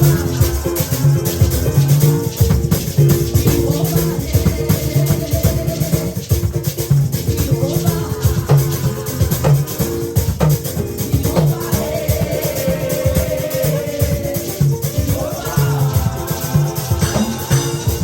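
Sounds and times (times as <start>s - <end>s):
bass guitar: 0.0s - 18.0s
drums: 0.0s - 18.0s.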